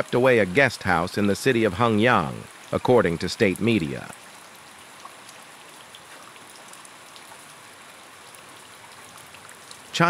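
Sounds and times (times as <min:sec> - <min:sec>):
rain hiss: 0:00.0 - 0:10.0
raindrop ticks: 0:00.0 - 0:10.0.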